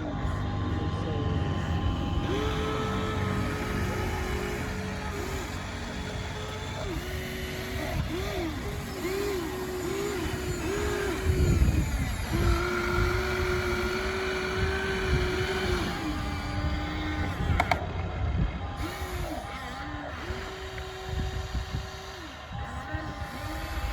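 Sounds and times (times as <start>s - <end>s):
small electric motors whining: 0.0s - 23.9s.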